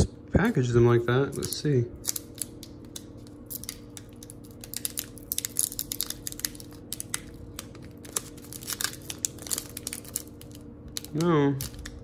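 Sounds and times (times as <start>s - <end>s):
foil wrapper tearing and crinkling: 1.3s - 12.0s.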